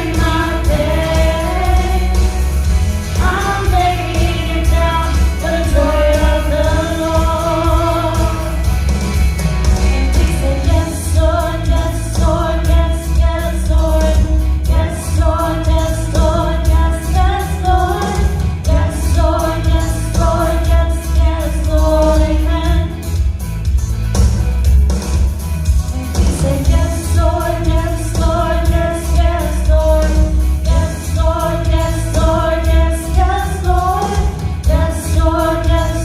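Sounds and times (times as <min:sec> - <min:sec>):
strong bass: 0:00.0 - 0:36.0
worship song with band: 0:00.0 - 0:36.0.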